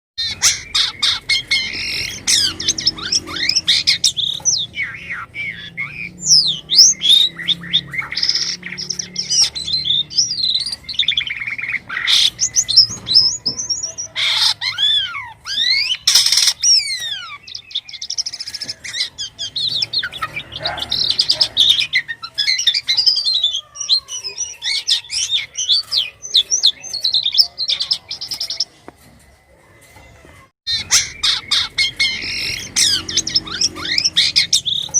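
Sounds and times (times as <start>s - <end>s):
starling singing: 0.2s - 29.3s, 30.0s - 34.9s.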